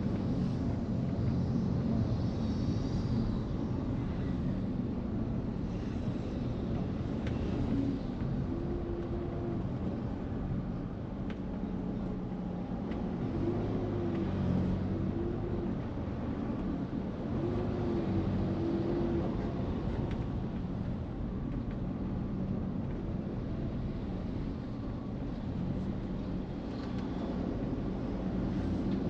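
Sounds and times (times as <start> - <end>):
tyre road noise: 0.0 - 29.0.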